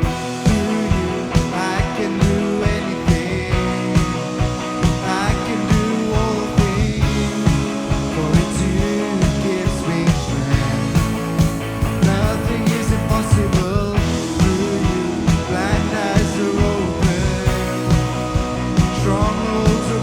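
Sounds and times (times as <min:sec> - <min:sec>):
worship band music: 0:00.0 - 0:20.0.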